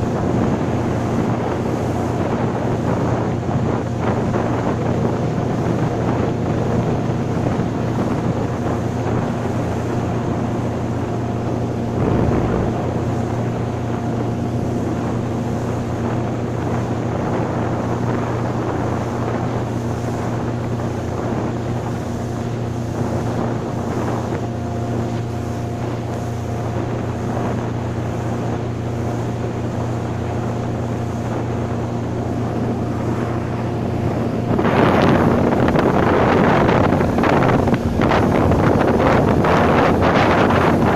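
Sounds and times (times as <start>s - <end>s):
motorboat engine running: 0.0s - 40.9s
wind blowing on microphone: 0.0s - 40.9s.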